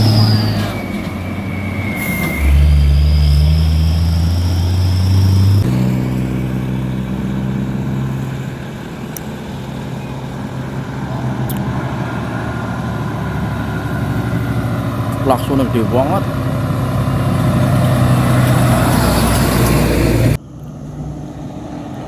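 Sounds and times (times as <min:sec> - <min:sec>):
diesel truck engine whining: 0:00.0 - 0:22.0
truck traffic: 0:00.0 - 0:22.0.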